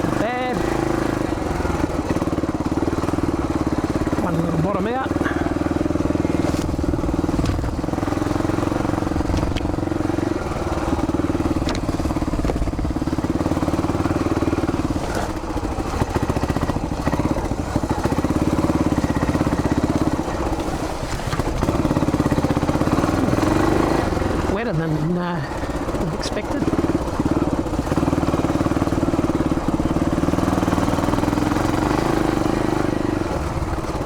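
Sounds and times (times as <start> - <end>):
motorcycle engine under load: 0.0 - 34.0.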